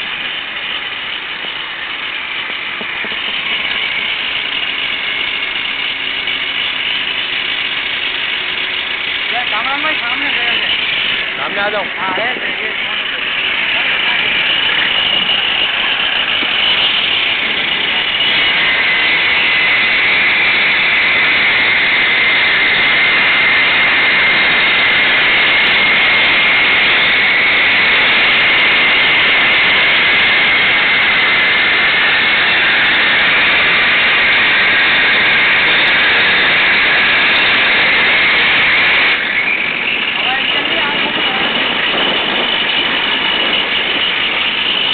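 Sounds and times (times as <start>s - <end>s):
loud steady machine noise: 0.0s - 44.9s
faint high whine: 8.0s - 44.9s.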